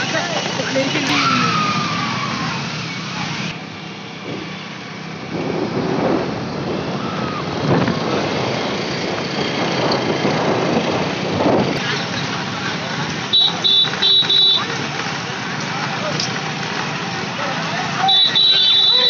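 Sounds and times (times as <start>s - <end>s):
motorcycle engines running: 0.0s - 19.0s
road noise: 0.0s - 19.0s.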